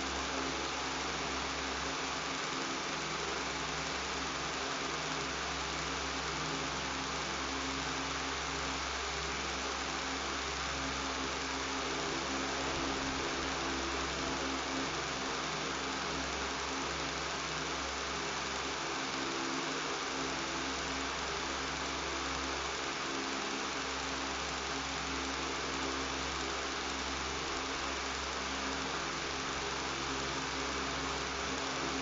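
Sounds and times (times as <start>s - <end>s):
electric fan whirring: 0.0s - 32.0s.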